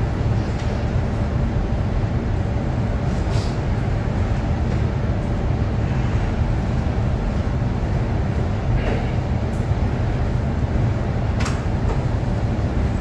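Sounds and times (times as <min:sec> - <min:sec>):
faint steady hum: 0:00.0 - 0:13.0
ventilation rumble: 0:00.0 - 0:13.0.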